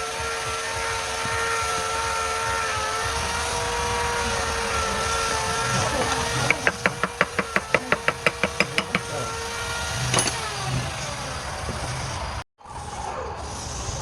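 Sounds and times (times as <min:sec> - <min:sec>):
lathe running with a whine: 0:00.0 - 0:12.4.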